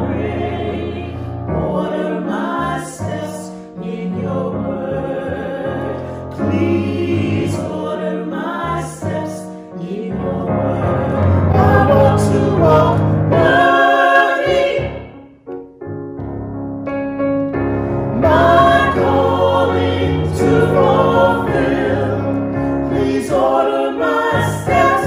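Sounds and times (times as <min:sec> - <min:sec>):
choir singing a hymn: 0:00.0 - 0:15.4, 0:17.8 - 0:25.0.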